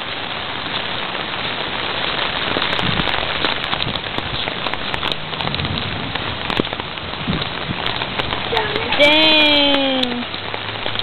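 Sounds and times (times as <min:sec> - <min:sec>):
heavy rain splashing: 0:00.0 - 0:11.0.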